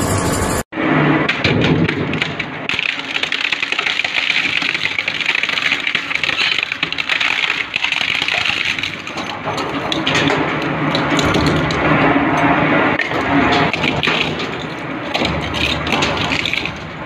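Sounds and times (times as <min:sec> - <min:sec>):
shredder crunching material: 0:01.8 - 0:17.0.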